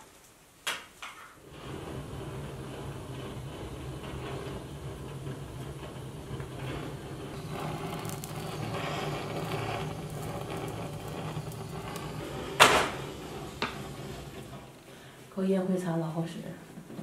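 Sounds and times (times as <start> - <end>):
blowtorch flame rushing: 1.4 - 15.4.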